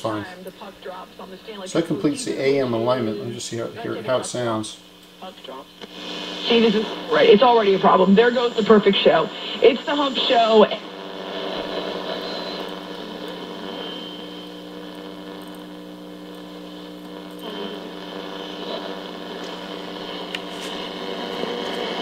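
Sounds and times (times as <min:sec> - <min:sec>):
radio hum: 0:00.0 - 0:22.0
radio static hiss: 0:00.0 - 0:22.0.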